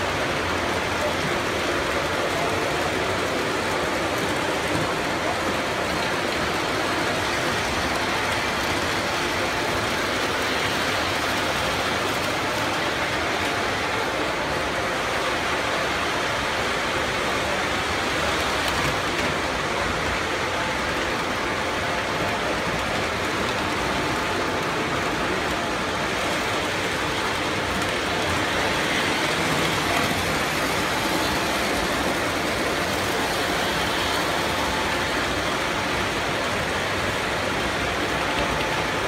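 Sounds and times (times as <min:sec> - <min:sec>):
model trains rumbling on metal track: 0:00.0 - 0:39.0.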